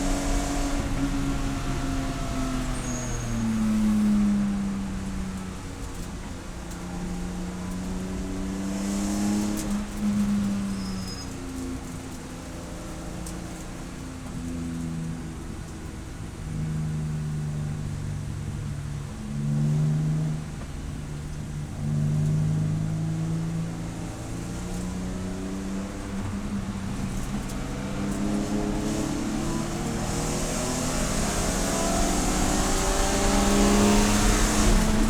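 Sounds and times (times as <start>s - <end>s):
race car engine: 0.0s - 35.0s.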